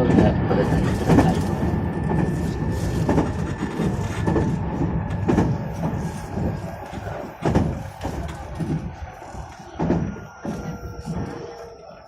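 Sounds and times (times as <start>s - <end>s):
train rumble from inside: 0.0s - 12.0s.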